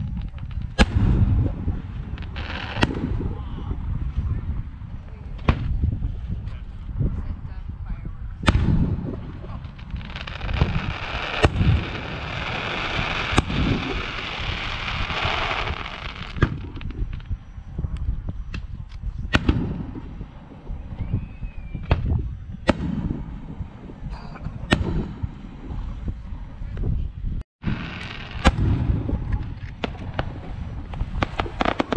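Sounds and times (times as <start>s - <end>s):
low rumbling: 0.0s - 31.9s.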